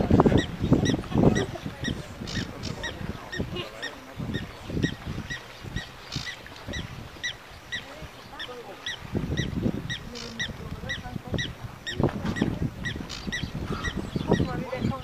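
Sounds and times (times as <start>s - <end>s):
low wind rumble: 0.0s - 15.0s
high chirping call: 0.3s - 12.1s, 12.8s - 15.0s.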